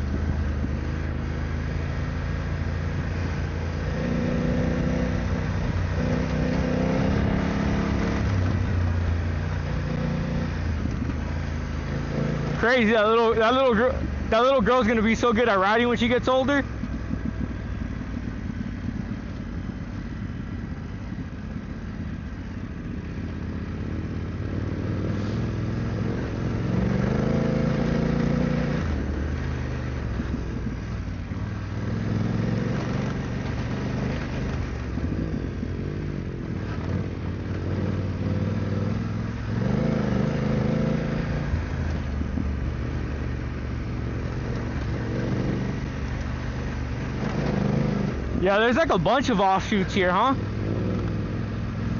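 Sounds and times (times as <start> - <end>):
motorcycle engine revving: 0.0 - 51.9
wind and riding noise: 0.0 - 51.9.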